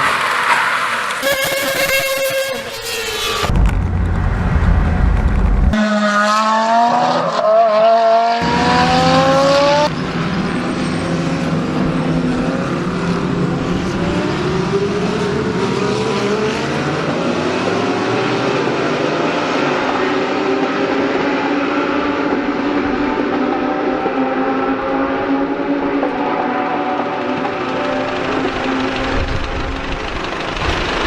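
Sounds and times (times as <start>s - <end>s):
race car engines at high revs: 0.0s - 3.5s, 5.7s - 31.0s.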